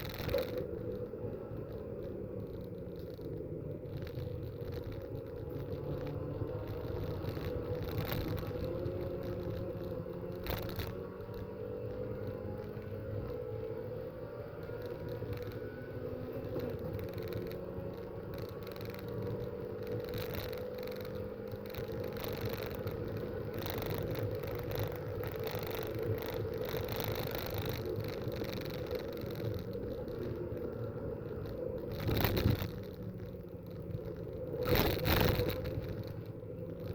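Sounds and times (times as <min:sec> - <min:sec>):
road and wind noise: 0:00.0 - 0:36.9.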